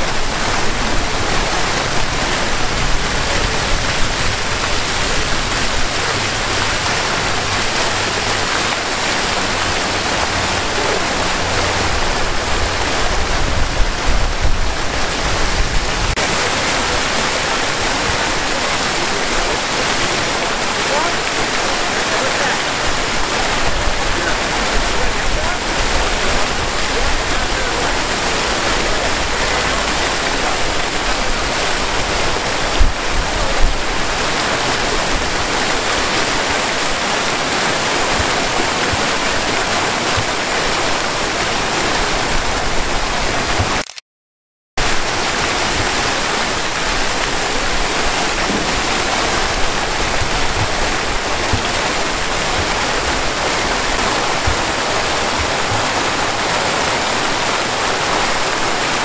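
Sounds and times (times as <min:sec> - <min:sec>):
fountain water splashing: 0:00.0 - 0:44.0, 0:44.8 - 0:59.0.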